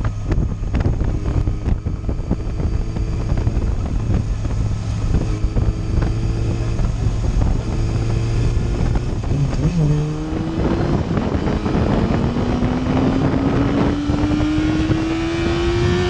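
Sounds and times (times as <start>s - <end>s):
motorcycle engine cruising: 0.0s - 16.0s
wind buffeting microphone: 0.0s - 16.0s.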